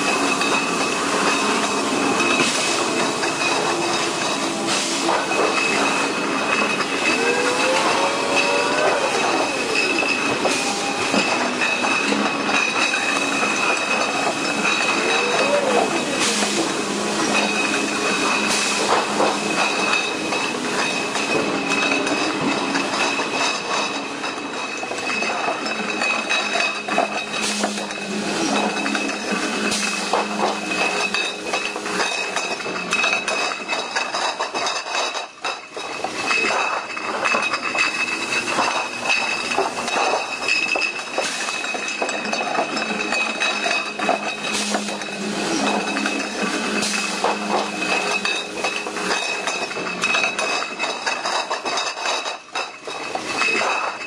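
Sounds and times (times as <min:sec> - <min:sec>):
glass bottles clinking: 0:00.0 - 0:54.0
machinery high whine: 0:00.0 - 0:54.0.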